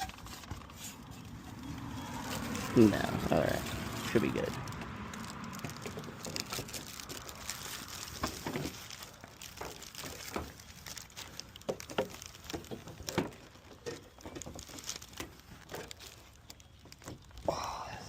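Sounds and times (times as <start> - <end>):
rustling: 0.0 - 17.5.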